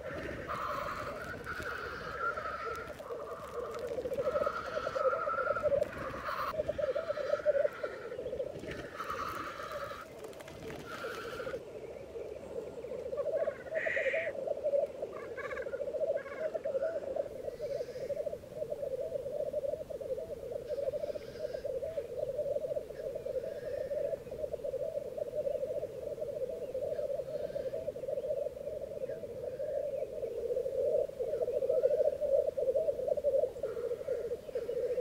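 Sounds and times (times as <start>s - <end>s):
black grouse bubbling song: 0.0s - 35.0s.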